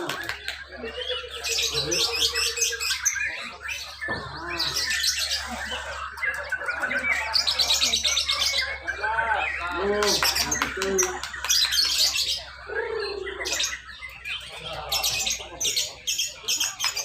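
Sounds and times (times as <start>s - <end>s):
lovebirds chirping: 0.0s - 17.0s.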